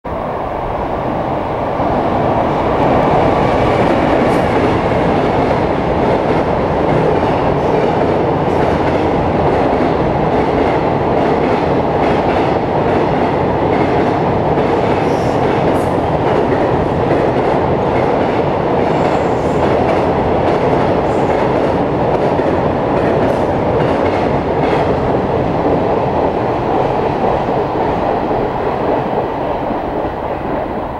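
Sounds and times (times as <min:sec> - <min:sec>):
freight train rumbling past: 0:00.1 - 0:30.9.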